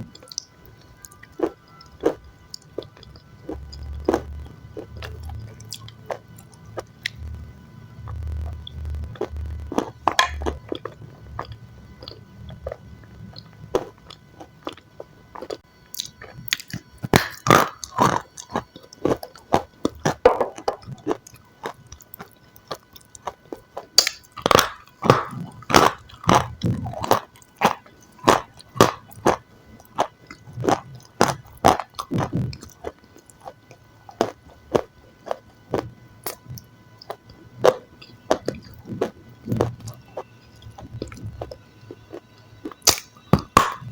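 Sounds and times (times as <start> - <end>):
chewing crunchy food: 0.0 - 43.9.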